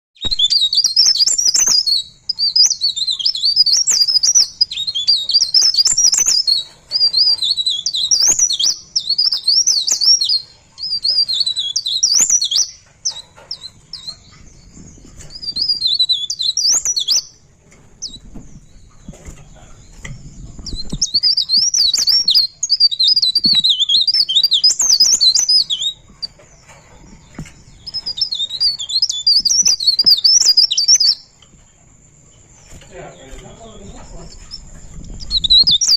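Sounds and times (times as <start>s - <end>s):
songbird twittering warble: 0.2s - 35.9s.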